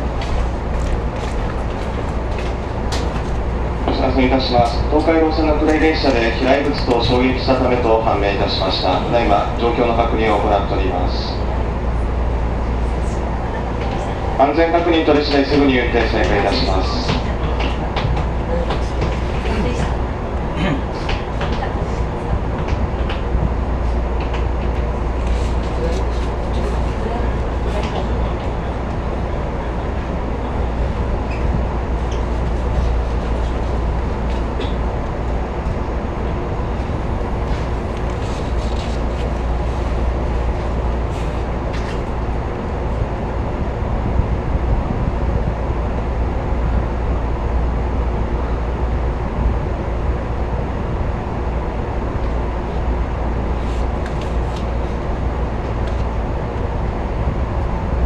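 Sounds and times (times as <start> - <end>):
electric train equipment hum: 0.0 - 58.0.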